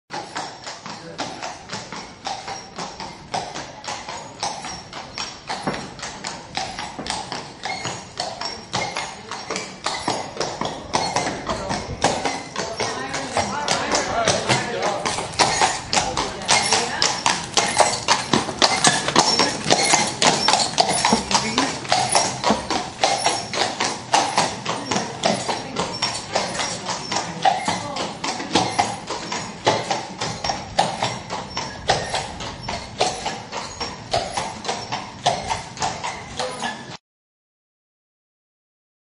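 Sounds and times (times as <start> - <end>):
horse hooves clattering: 0.1 - 37.0.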